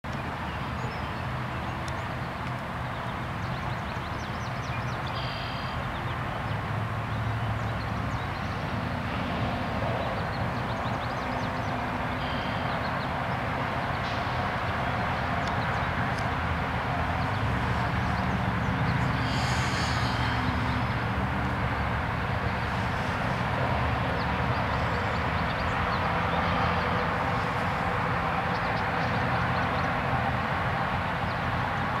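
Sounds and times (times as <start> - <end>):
low outdoor rumble: 1.6 - 32.0.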